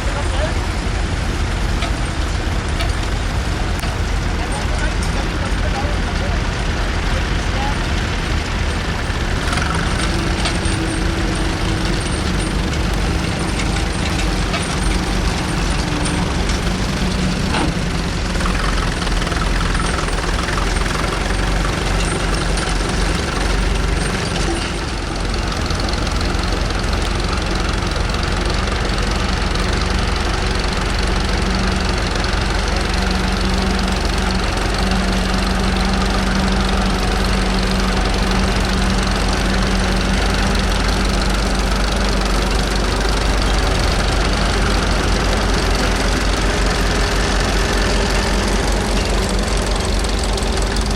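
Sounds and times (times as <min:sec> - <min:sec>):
tractor engines idling: 0:00.0 - 0:50.9.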